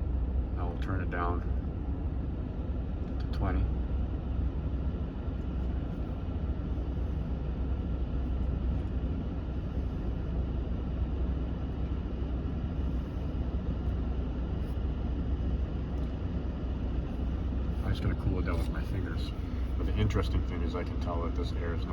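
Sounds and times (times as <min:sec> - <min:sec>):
air rushing from vents: 0:00.0 - 0:21.9
low hum: 0:00.0 - 0:21.9.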